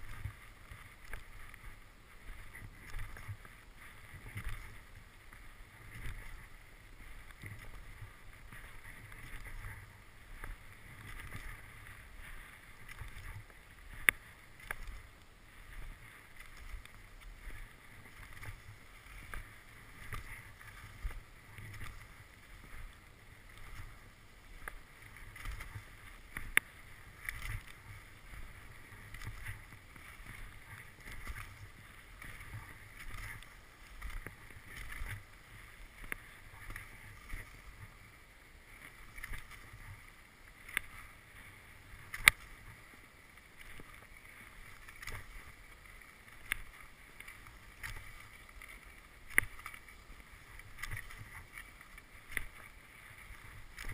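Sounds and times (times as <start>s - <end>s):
skis swishing on snow: 0.0s - 53.9s.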